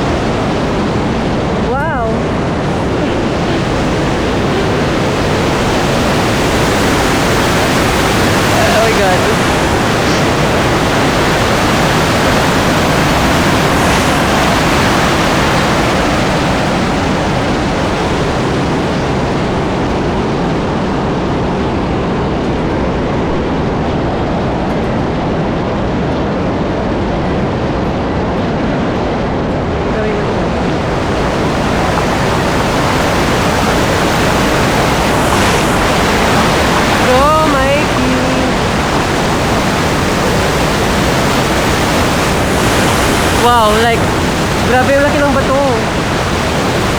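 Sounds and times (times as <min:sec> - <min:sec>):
waterfall rushing: 0:00.0 - 0:24.1, 0:29.5 - 0:46.9.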